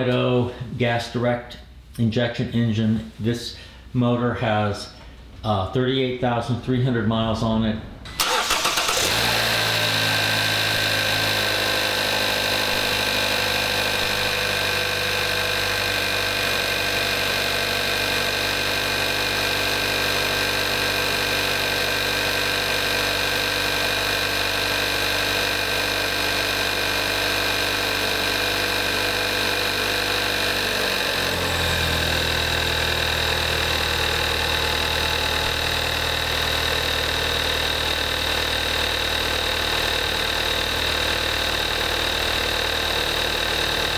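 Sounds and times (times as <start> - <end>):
car engine idling: 8.0 - 43.9.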